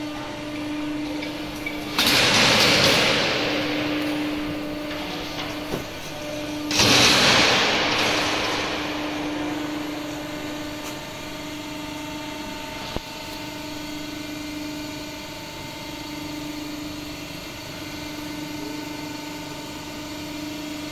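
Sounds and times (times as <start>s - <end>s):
hydraulic machine hum: 0.0s - 20.9s.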